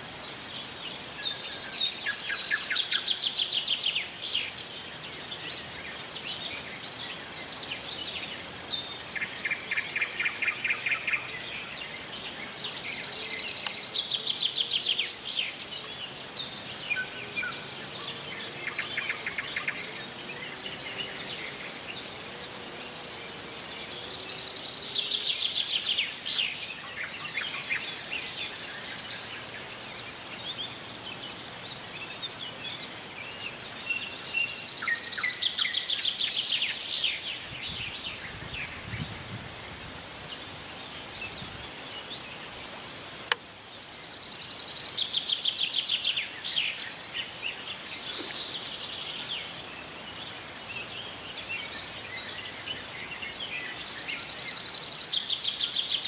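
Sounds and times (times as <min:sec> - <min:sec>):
background hiss: 0:00.0 - 0:56.0.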